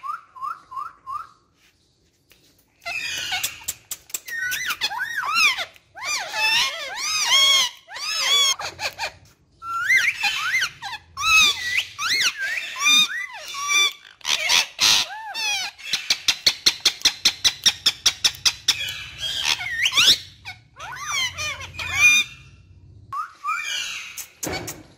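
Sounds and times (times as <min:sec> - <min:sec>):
parakeets chattering: 0:02.8 - 0:24.9.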